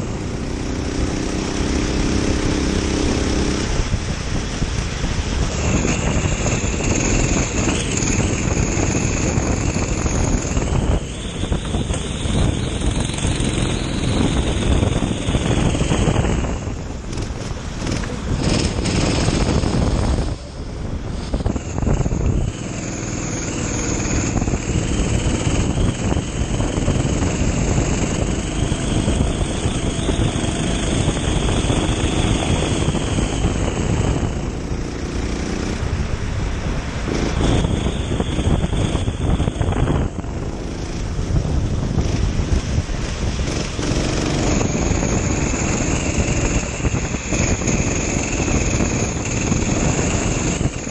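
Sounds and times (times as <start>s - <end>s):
kart engine racing: 0.0s - 50.9s
steady rush of noise: 0.0s - 50.9s.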